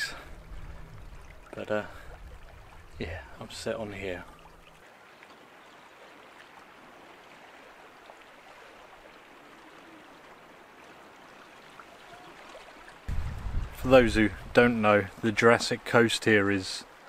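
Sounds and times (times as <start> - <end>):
calm sea lapping at shore: 0.0 - 17.0.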